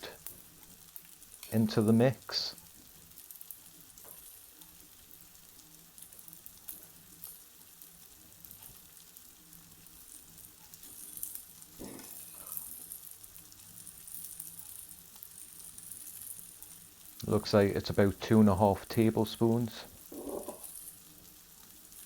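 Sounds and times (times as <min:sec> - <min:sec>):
food sizzling in a pan: 0:00.0 - 0:18.2, 0:19.1 - 0:22.0.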